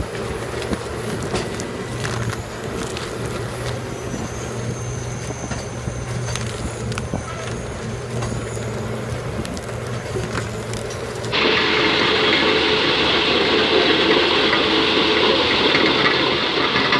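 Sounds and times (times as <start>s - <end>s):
heavy machinery engine humming: 0.0s - 16.9s.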